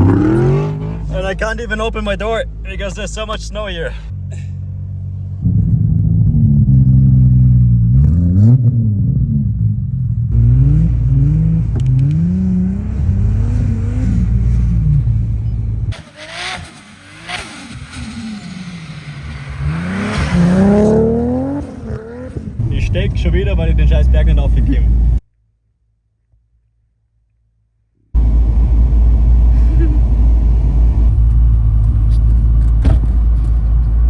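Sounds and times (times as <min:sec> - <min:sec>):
car engine revving: 0:00.0 - 0:04.0, 0:04.7 - 0:25.2, 0:28.2 - 0:34.0.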